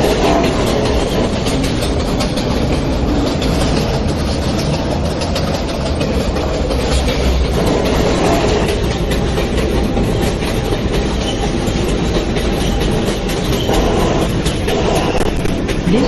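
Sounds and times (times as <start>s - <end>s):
subway car rumble: 0.0s - 16.0s
wheels clattering over rail joints: 0.0s - 16.0s.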